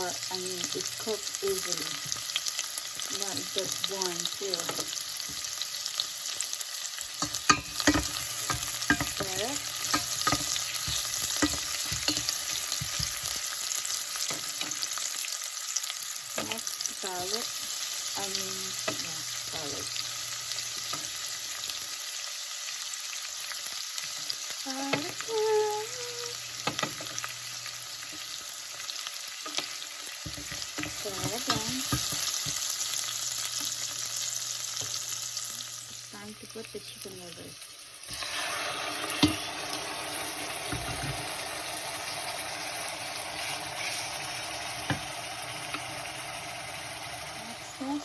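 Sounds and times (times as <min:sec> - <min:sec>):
onion and garlic sizzling in oil: 0:00.0 - 0:48.0.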